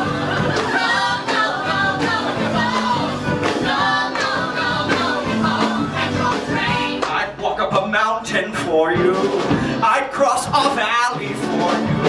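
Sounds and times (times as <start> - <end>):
voices singing together: 0.0 - 10.6
piano accompaniment: 0.0 - 12.0.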